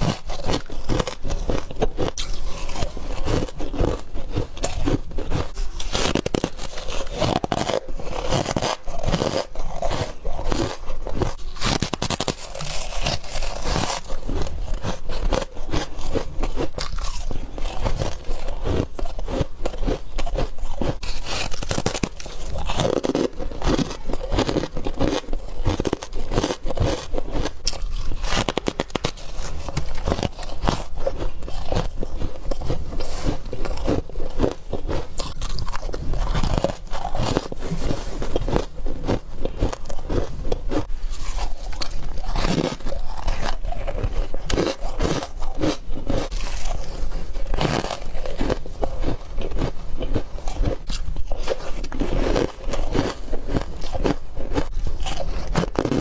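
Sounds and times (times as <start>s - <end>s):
person crunching frost: 0.0s - 56.0s.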